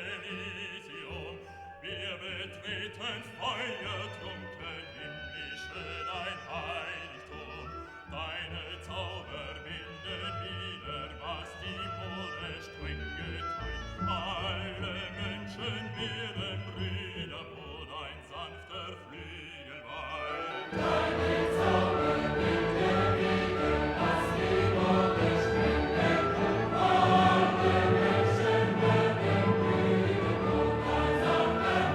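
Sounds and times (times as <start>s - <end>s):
music with choir singing: 0.0s - 31.9s.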